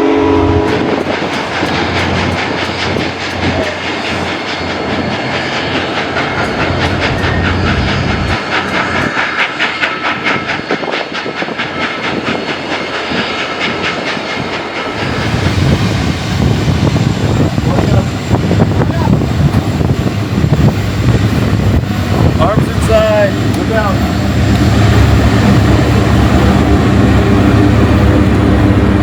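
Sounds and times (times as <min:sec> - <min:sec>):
steam train rolling rumble: 0:00.0 - 0:29.0.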